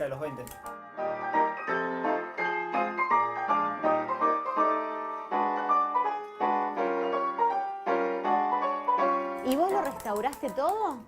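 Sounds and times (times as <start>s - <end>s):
player piano playing a tune: 0.0s - 11.0s.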